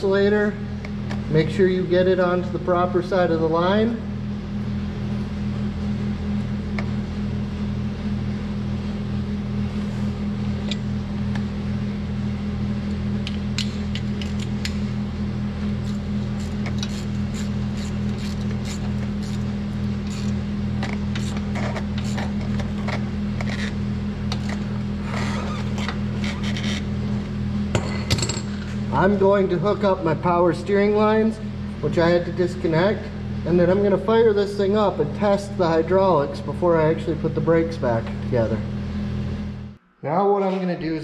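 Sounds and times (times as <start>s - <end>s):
low machine hum: 0.0s - 41.0s.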